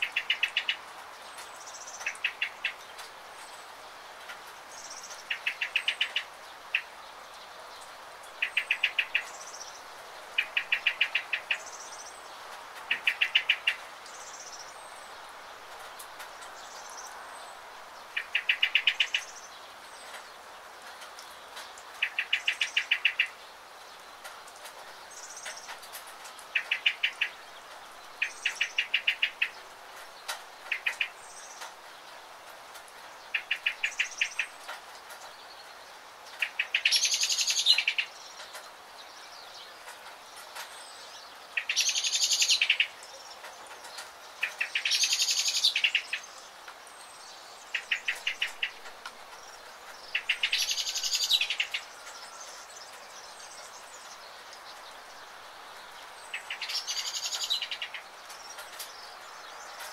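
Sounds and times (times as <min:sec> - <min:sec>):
light rain pattering: 0:00.0 - 0:59.9
songbirds chirping: 0:00.0 - 0:59.9.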